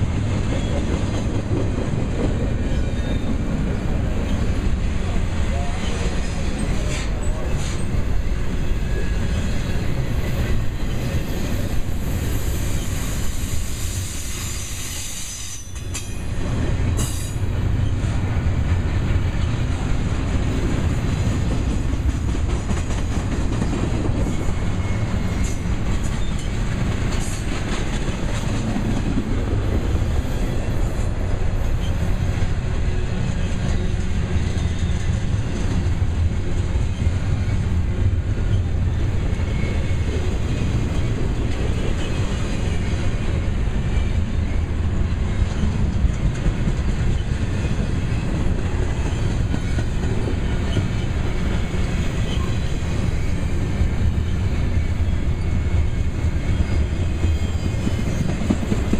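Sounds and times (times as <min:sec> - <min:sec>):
train wheels rumbling and clattering: 0:00.0 - 0:58.9.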